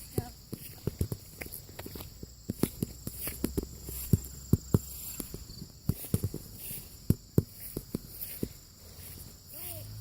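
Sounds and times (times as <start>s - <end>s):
footsteps walking outdoors: 0.0s - 10.0s
high-pitched insect trill: 0.0s - 10.0s.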